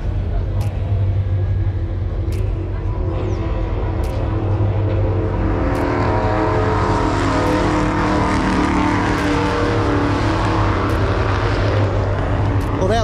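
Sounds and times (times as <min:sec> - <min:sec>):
race car engine drone: 0:00.0 - 0:13.0.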